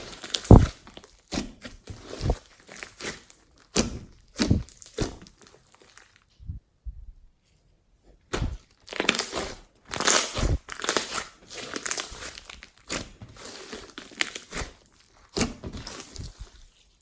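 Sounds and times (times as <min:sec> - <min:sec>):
slime squishing and crackling: 0:00.0 - 0:06.4, 0:08.3 - 0:17.0.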